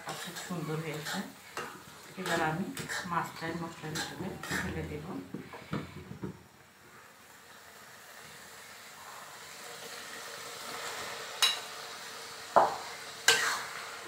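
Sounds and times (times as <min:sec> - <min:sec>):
masala sizzling in a pan: 0:00.0 - 0:14.0.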